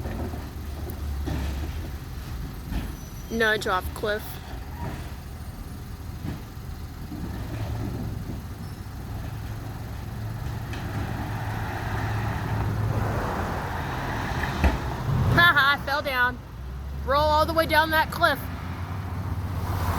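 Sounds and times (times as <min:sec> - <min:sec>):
garbage truck engine running: 0:00.0 - 0:19.6.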